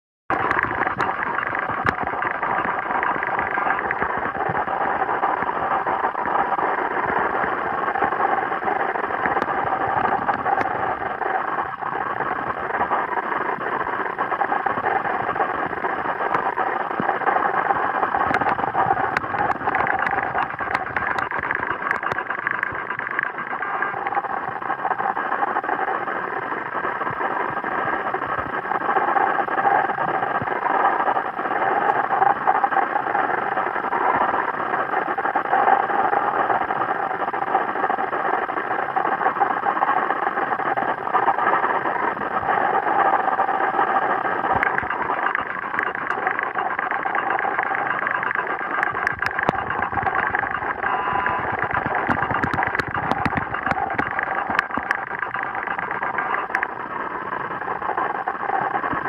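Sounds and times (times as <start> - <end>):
faint clicks: 0.3 - 59.0
underwater whirring: 0.3 - 59.0.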